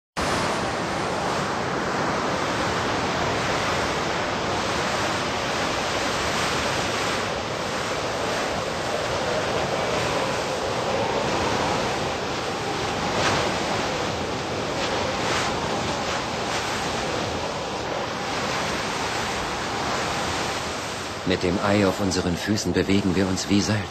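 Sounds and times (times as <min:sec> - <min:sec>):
blizzard wind blowing: 0:00.2 - 0:23.9.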